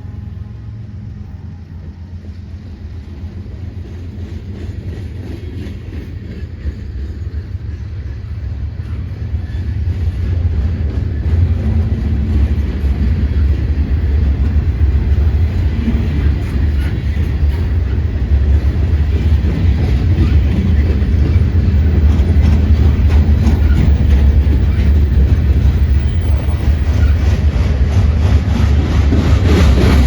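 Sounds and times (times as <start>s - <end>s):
diesel train rumble: 0.0s - 30.0s.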